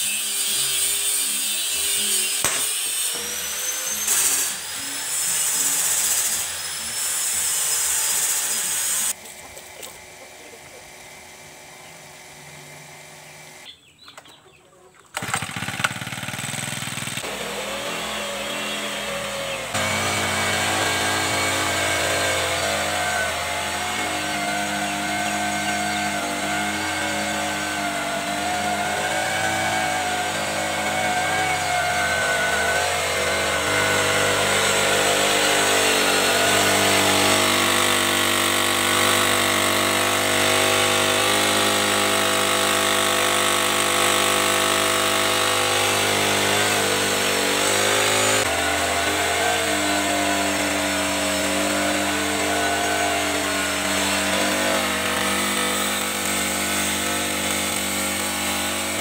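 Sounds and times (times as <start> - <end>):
small engine running at speed: 0.0 - 13.7, 15.2 - 59.0.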